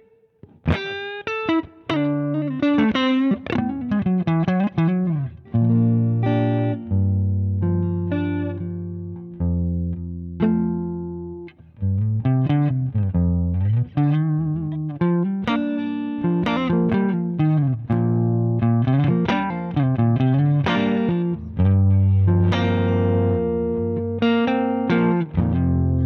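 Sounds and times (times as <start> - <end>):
overdriven electric guitar: 0.0 - 26.0.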